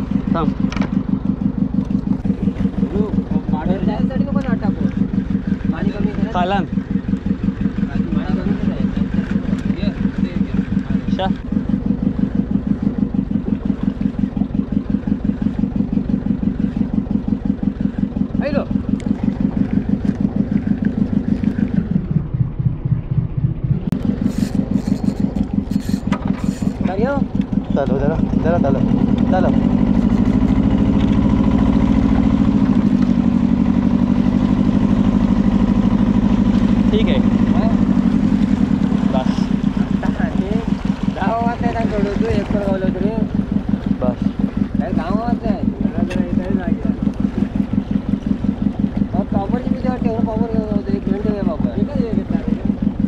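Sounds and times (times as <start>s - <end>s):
boat engine chugging: 0.0s - 53.0s.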